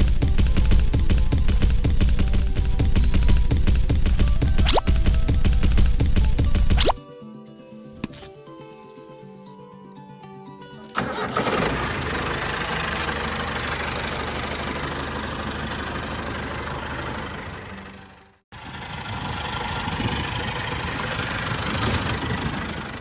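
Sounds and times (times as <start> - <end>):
tractor engine running: 0.0 - 7.0, 10.9 - 23.0.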